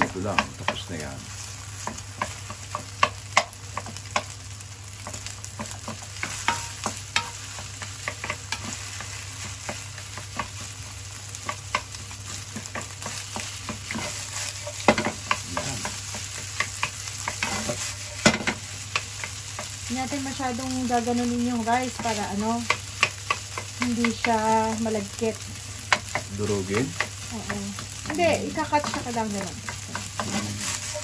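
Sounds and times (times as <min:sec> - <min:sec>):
rice and egg sizzling: 0:00.0 - 0:31.0
wooden spatula scraping a pan: 0:00.3 - 0:04.4, 0:05.0 - 0:31.0.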